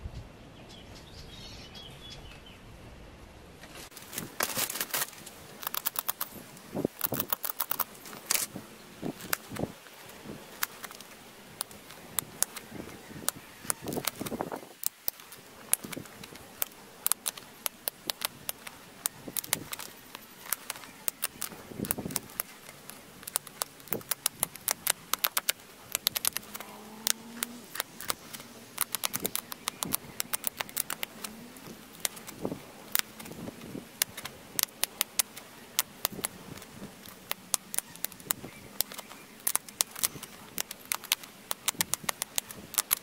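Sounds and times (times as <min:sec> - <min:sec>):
sharp clicks of stone flaking: 0:04.0 - 0:43.0.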